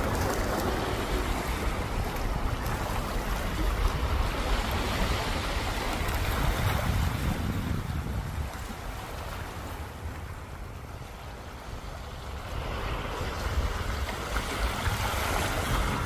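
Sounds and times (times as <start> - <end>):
sea waves washing onto shore: 0.0 - 16.0
wind rumbling on microphone: 0.0 - 16.0.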